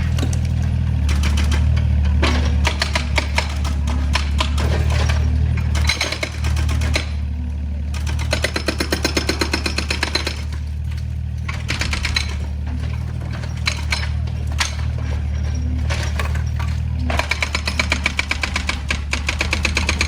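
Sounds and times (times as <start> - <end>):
diesel engine running: 0.0 - 20.0
metallic clattering and rattling: 0.0 - 20.0.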